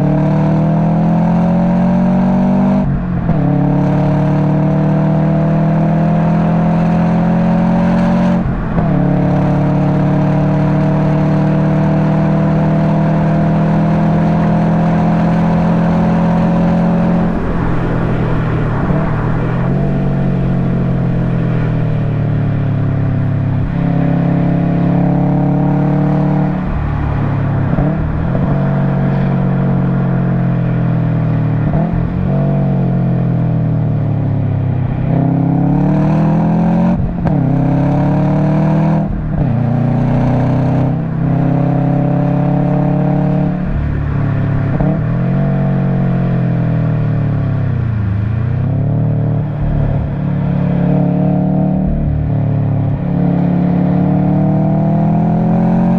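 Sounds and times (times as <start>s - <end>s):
car engine revving hard: 0.0s - 33.4s, 35.0s - 55.9s.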